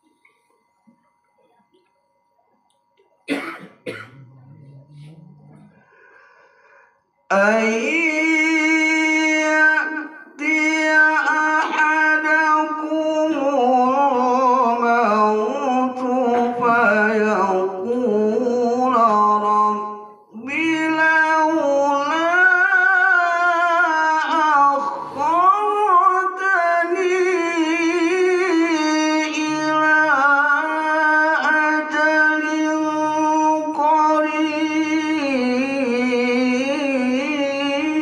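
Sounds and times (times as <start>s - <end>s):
man chanting into a microphone: 7.3s - 38.0s.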